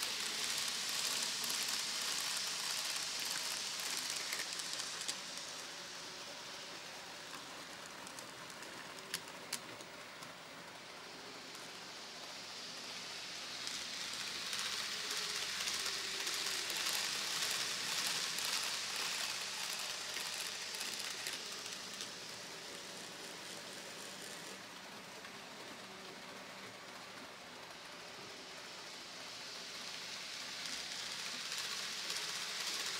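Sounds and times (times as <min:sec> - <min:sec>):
model train wheels rattling: 0:00.0 - 0:32.9.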